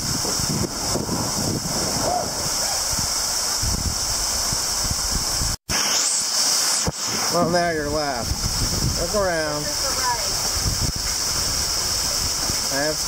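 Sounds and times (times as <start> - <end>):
waterfall splashing: 0.0 - 13.0.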